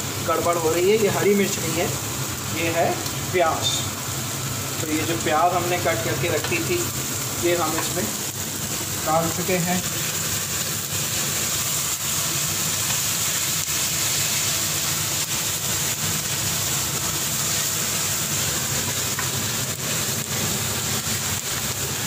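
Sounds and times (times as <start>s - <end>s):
meat sizzling in a wok: 0.0s - 22.0s.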